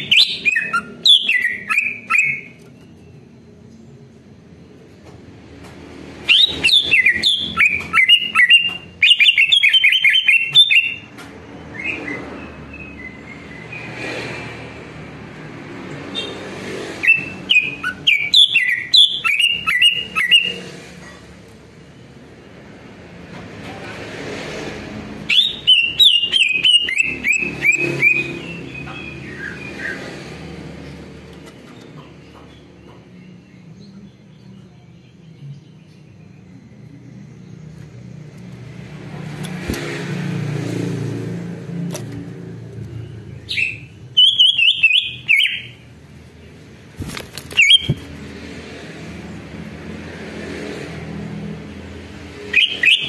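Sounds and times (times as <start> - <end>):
bird singing scratchy chirps: 0.0 - 4.1, 6.2 - 22.7, 25.0 - 53.0.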